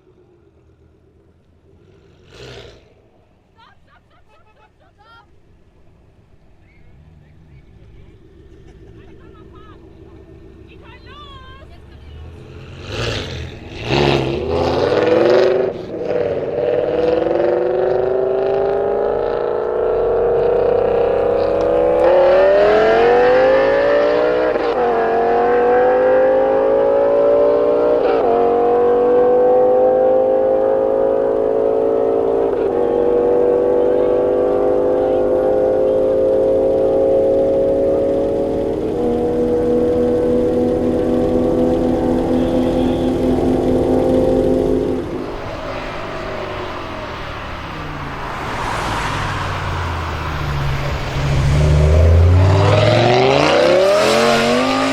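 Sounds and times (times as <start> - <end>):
car engine accelerating through gears: 0.0 - 3.3, 12.1 - 54.9.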